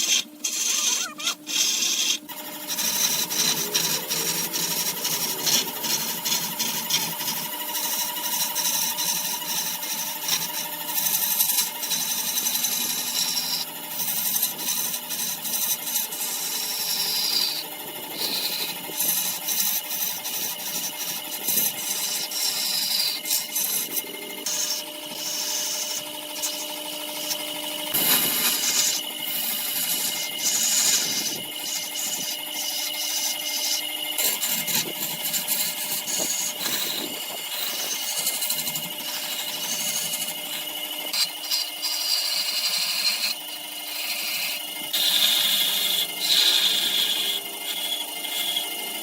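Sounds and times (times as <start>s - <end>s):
lathe motor hum: 0.0s - 49.0s
tool scraping spinning wood: 0.0s - 49.0s.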